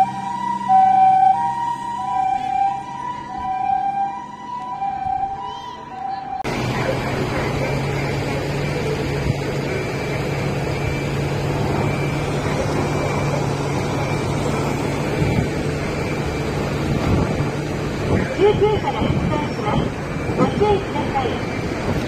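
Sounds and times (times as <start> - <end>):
ambulance engine humming: 0.0 - 22.0.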